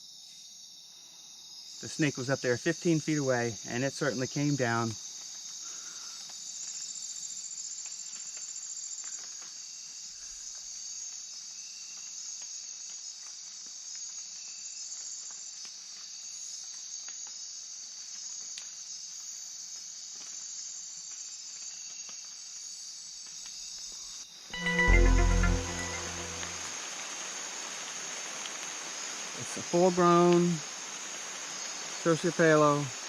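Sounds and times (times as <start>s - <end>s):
night insects chorus: 0.0s - 24.5s, 26.8s - 33.0s.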